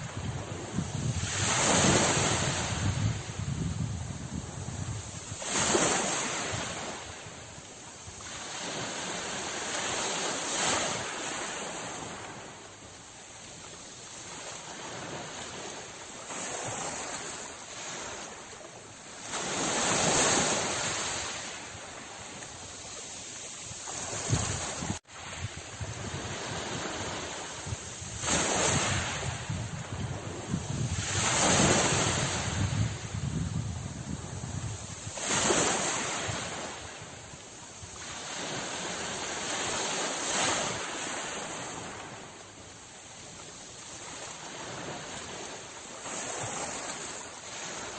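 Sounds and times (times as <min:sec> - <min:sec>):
sea waves breaking: 0:00.0 - 0:47.9
wind: 0:00.0 - 0:47.9.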